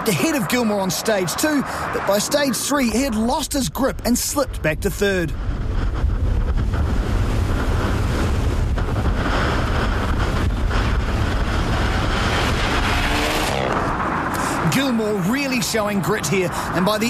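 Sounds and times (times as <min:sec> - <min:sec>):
rally car driving on gravel: 0:00.0 - 0:17.0
wind buffeting microphone: 0:00.0 - 0:17.0.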